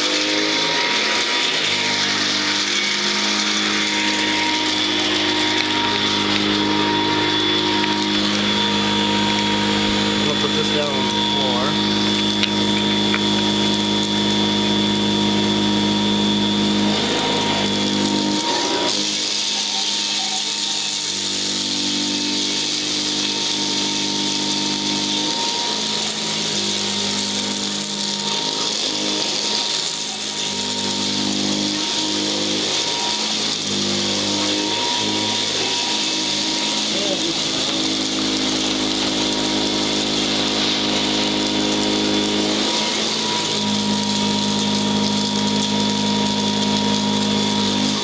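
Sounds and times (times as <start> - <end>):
vacuum cleaner whine: 0.0 - 48.0.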